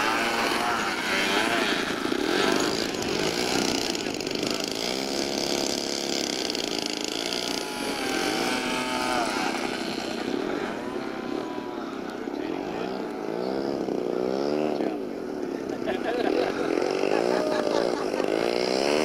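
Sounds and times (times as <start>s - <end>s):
model airplane engines revving: 0.0s - 19.0s.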